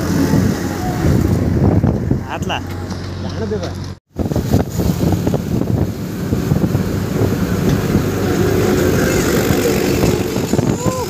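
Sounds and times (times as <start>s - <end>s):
wind on microphone: 0.0s - 2.6s, 4.1s - 11.0s.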